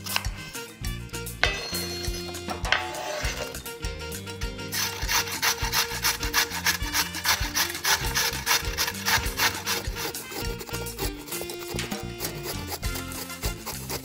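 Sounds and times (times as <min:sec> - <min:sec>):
carrot grating on metal grater: 0:00.0 - 0:00.4, 0:02.1 - 0:03.7, 0:04.7 - 0:14.0.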